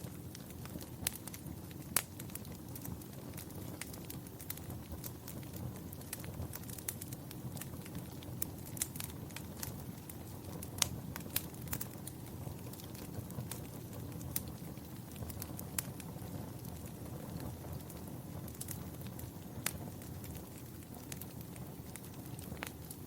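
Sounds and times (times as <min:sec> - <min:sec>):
fire crackling: 0:00.0 - 0:23.0
rush of flames: 0:00.0 - 0:23.0.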